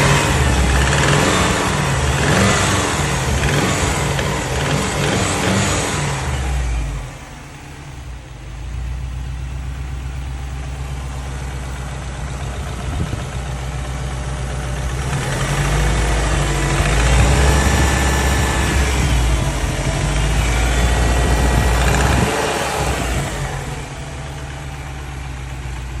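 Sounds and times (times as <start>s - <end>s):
engine knock: 0.0s - 6.6s, 9.3s - 26.0s
car engine idling and revving: 0.0s - 26.0s.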